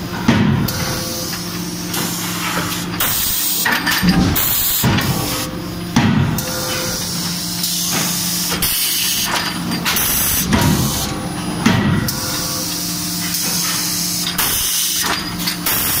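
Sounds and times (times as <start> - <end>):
machine hum: 0.0 - 16.0
heavy forging hammer blows: 2.5 - 16.0.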